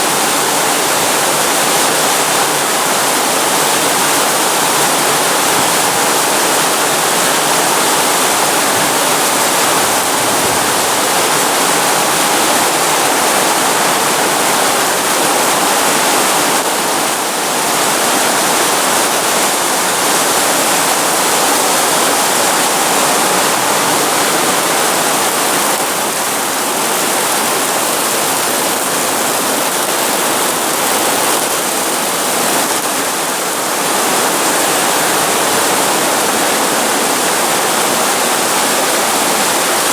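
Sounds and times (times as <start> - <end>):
very heavy rain pouring: 0.0 - 39.9.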